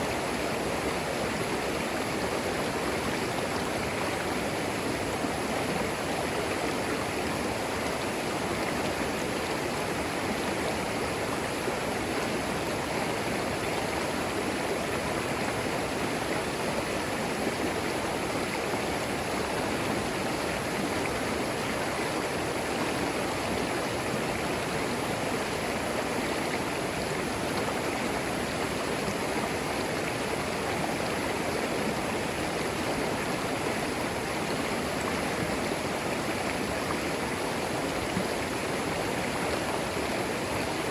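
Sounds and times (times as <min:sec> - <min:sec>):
creek babbling over stones: 0:00.0 - 0:40.9.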